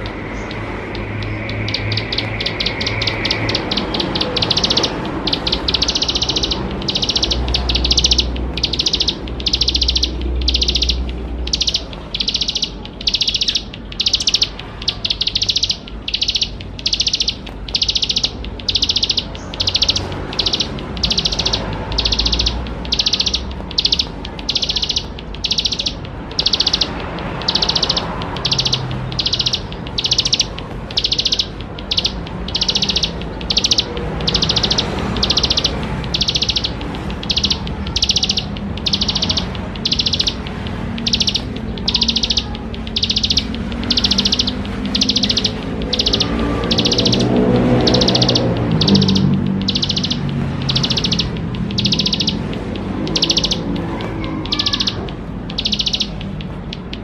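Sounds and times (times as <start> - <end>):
bird singing high repeated notes: 0.0 - 57.0.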